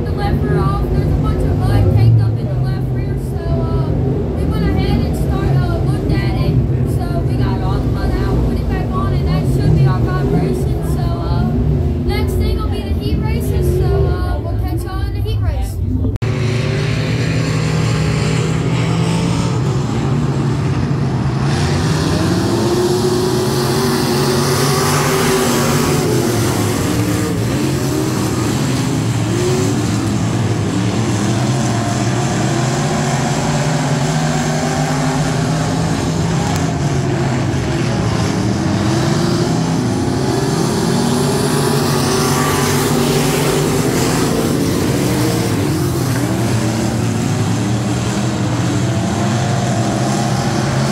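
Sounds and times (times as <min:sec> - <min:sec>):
race car engines: 0:00.0 - 0:50.9.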